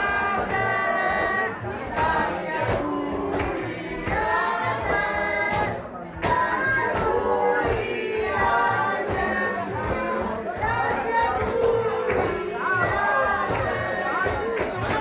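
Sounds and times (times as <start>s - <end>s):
group of voices singing: 0.0s - 15.0s
percussive hits: 0.0s - 15.0s.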